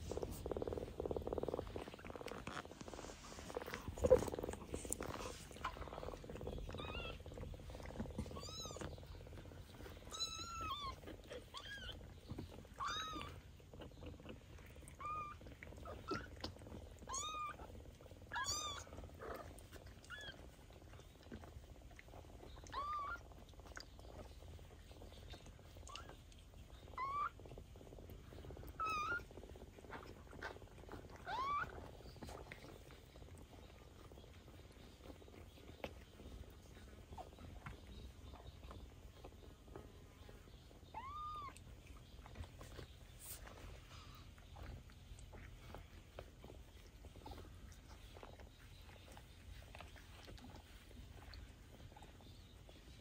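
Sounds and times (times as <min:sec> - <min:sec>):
low purring: 0:00.0 - 0:53.0.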